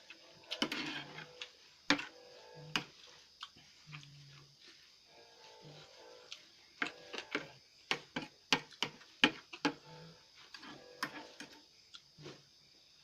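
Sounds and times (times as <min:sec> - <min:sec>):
eating noodles and rice: 0:00.0 - 0:12.5.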